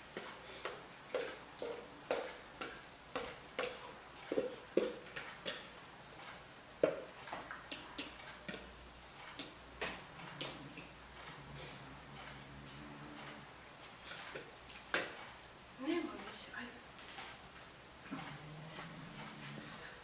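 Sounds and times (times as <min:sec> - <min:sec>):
cats eating off floor: 0:00.0 - 0:20.0.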